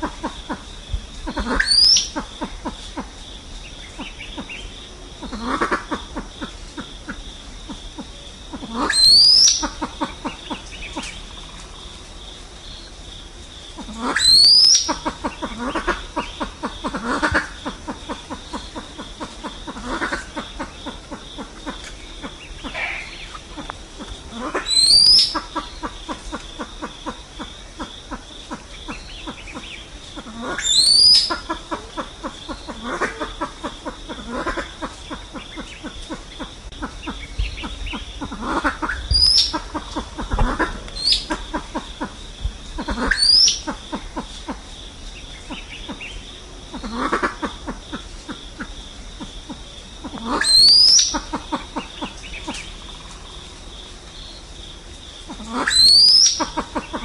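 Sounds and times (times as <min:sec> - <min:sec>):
pheasants whistled calls: 0:00.0 - 0:03.0, 0:03.8 - 0:11.6, 0:13.8 - 0:42.2, 0:42.8 - 0:44.6, 0:48.6 - 0:53.2, 0:55.3 - 0:57.0
soft low pheasant calls: 0:00.0 - 0:12.0, 0:13.7 - 0:53.4.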